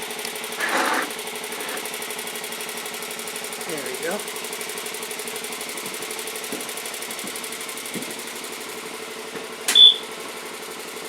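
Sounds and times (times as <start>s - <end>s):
garden tractor engine running: 0.0s - 11.0s.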